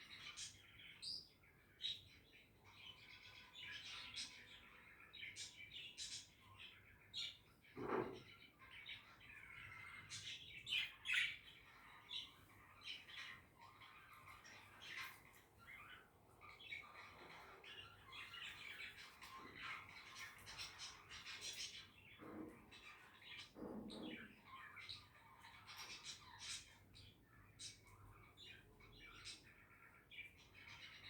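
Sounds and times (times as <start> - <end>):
budgerigars chattering and warbling: 0.0 - 31.0.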